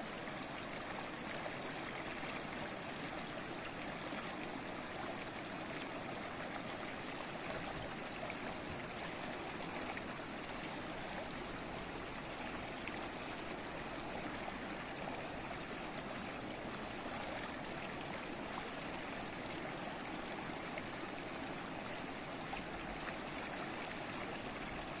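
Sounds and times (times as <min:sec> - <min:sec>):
stream flowing over stones: 0:00.0 - 0:25.0.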